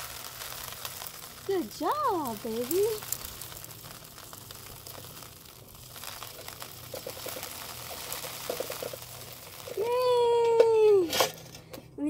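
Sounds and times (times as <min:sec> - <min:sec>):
bag crinkling and rustling: 0:00.0 - 0:10.4.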